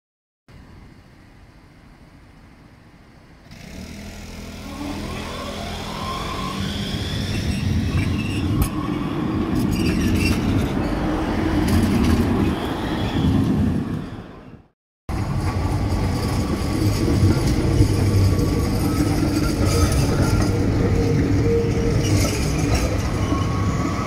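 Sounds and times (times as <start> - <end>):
tram motor whine: 0.6 - 14.4, 15.1 - 24.0
tram wheels rumbling on rails: 2.6 - 24.0.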